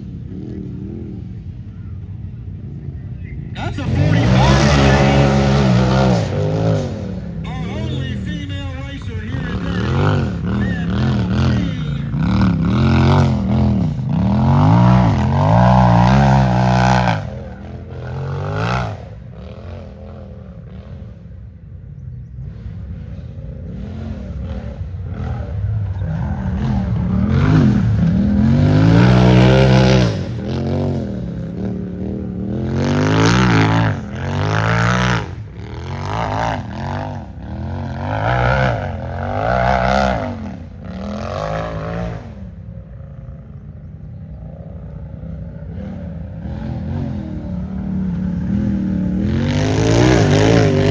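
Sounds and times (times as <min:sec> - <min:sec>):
off-road vehicle engine revving: 0:00.0 - 0:50.9.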